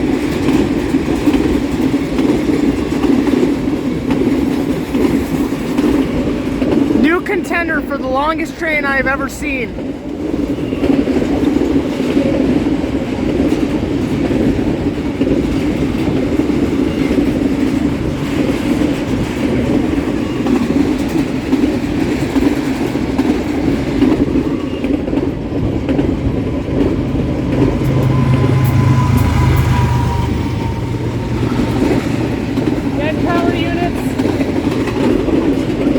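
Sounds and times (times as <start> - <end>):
clickety-clack over rail joints: 0.0 - 8.6, 9.7 - 35.9
freight train wheels rumbling: 0.0 - 35.9.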